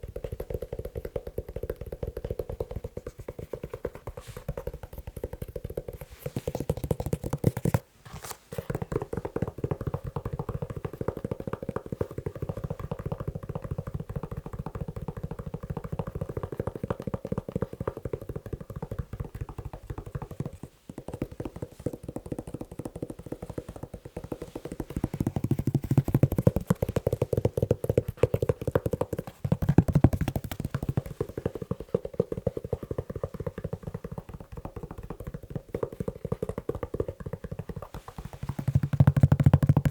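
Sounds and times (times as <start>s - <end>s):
fast tapping on leather shoe: 0.0s - 7.8s, 8.6s - 39.9s.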